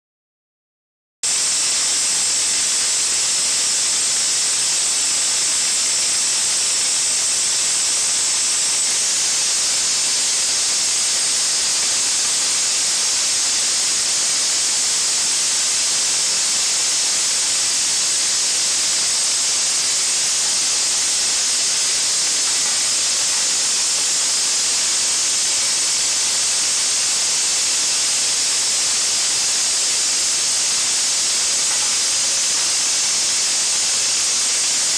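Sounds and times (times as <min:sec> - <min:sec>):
vibratory bowl feeder hissing: 0:01.3 - 0:34.9.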